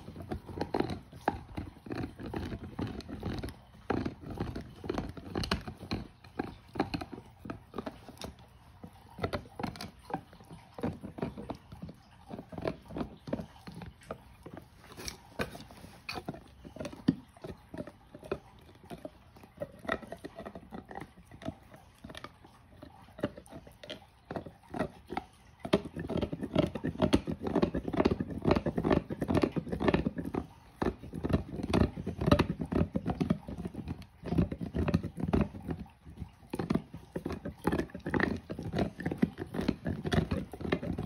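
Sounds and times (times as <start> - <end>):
dog gnawing chew toy: 0.0 - 41.0.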